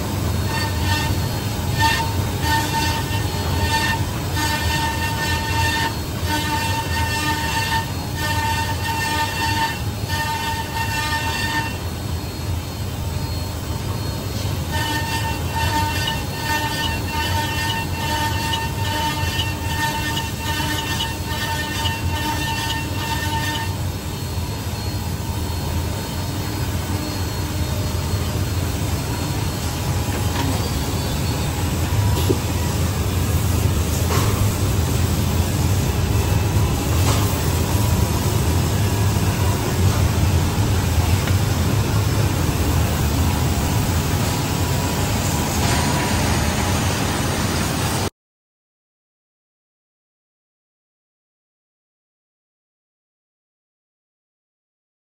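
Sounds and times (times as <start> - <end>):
high machine whine: 0.0 - 48.1.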